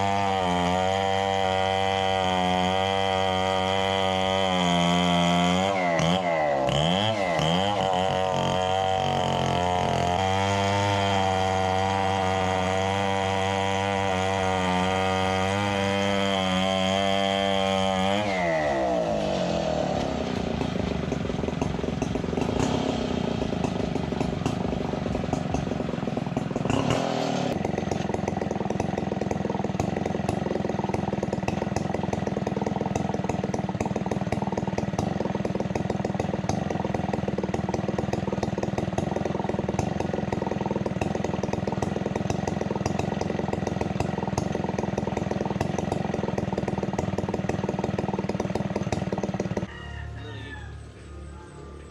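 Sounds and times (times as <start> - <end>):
chainsaw engine running: 0.0 - 49.9.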